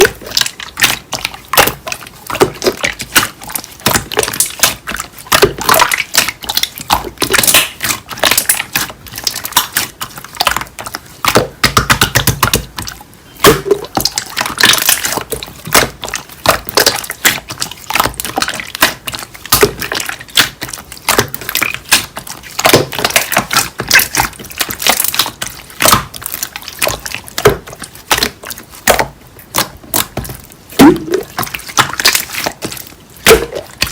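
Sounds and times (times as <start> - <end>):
slime squelching: 0.0 - 33.9.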